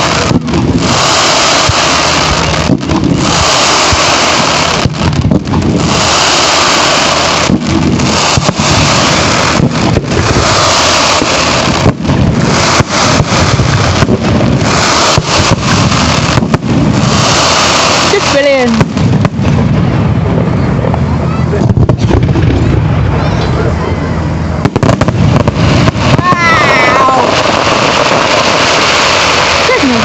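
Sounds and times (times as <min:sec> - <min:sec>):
fireworks barrage: 0:00.0 - 0:30.0.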